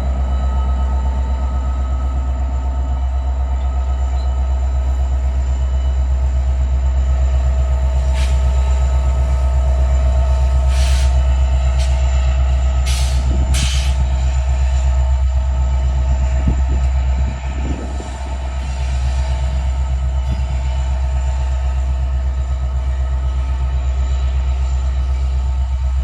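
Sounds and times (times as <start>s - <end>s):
diesel locomotive engine hum: 0.0s - 26.0s.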